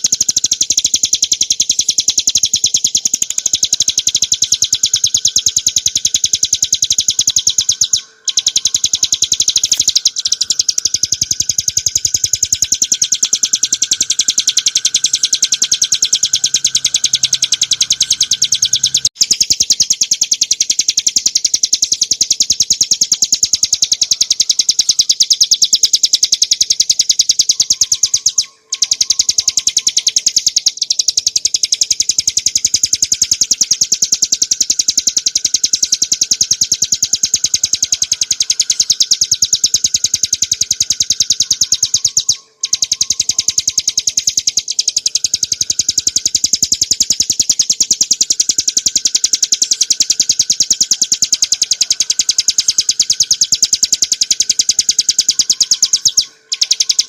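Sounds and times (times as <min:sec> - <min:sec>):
bird high-pitched trill: 0:00.0 - 0:57.0.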